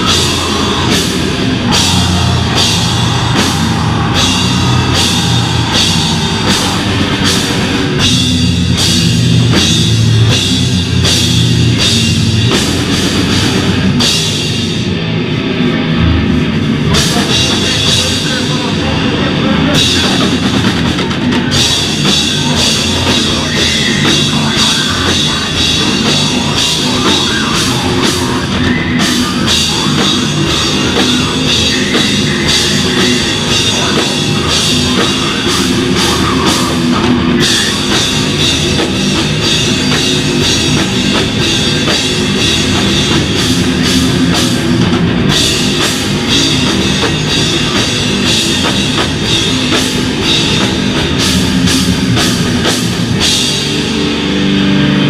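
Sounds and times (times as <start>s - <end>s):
distorted guitars: 0.0s - 55.0s
drum kit: 0.0s - 55.0s
hardcore band playing live: 0.0s - 55.0s.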